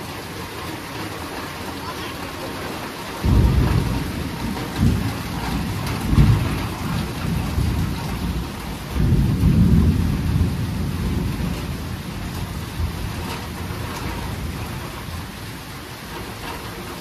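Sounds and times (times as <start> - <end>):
steady rain: 0.0 - 17.0
rolling thunder: 3.2 - 17.0.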